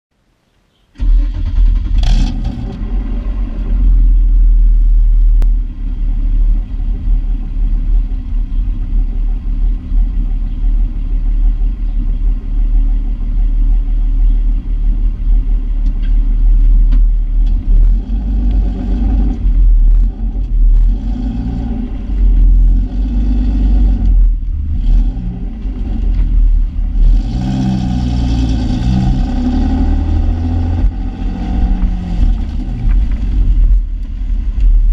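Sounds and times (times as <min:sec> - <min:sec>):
car engine idling and revving: 0:01.0 - 0:34.9.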